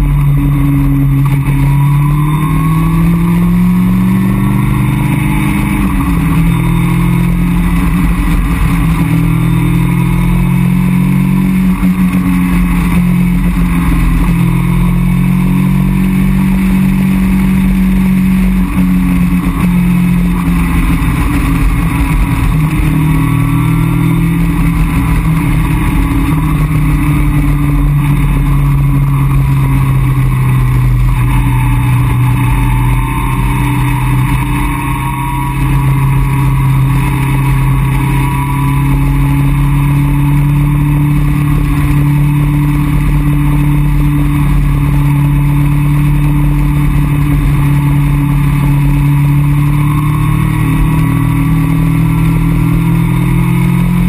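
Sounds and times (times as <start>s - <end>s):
car engine cruising: 0.0s - 54.0s.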